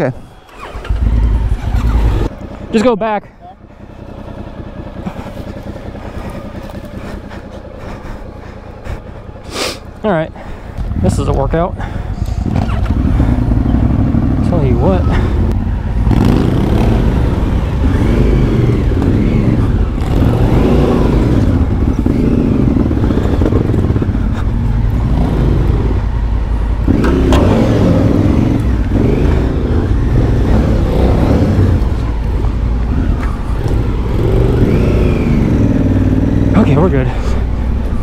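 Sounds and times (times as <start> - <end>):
motorcycle engine revving: 0.3 - 38.0.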